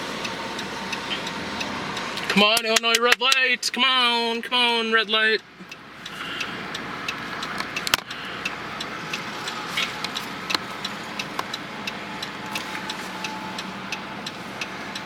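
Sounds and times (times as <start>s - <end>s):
car engine idling: 0.0s - 15.0s
turn signal clicking: 0.2s - 3.8s, 4.4s - 15.0s.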